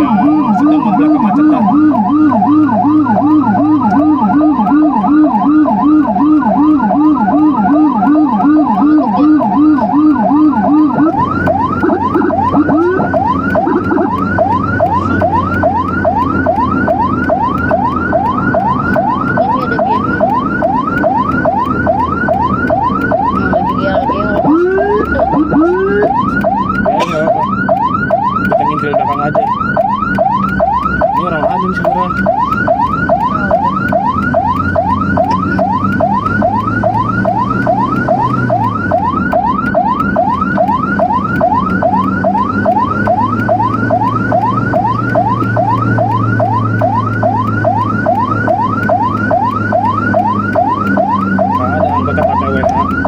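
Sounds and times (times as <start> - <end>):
moving vehicle rumble: 0.0 - 53.0
siren yelping: 0.0 - 53.0
warbling emergency sirens: 0.0 - 53.0.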